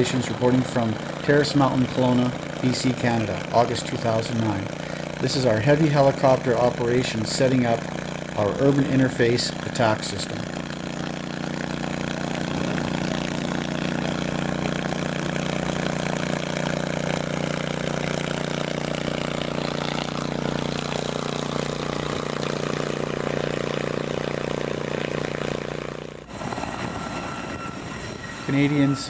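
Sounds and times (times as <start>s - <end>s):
helicopter rotor drone: 0.0s - 29.0s.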